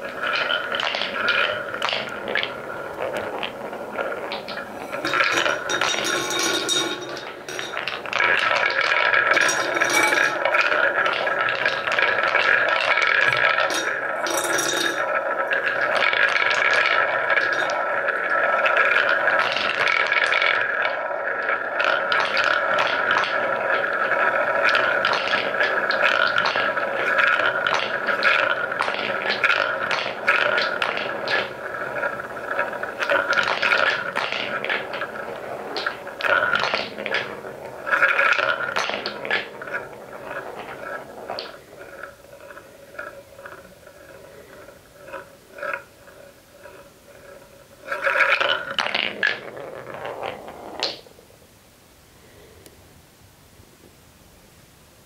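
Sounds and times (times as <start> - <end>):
wooden balls clicking together: 0.0 - 51.1
wooden balls rolling in bowl: 0.0 - 51.6.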